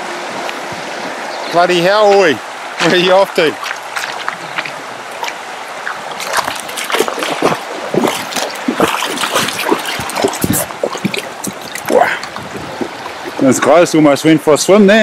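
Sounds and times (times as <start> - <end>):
water splashing and sloshing: 0.0 - 14.2
river water rushing: 0.0 - 14.5.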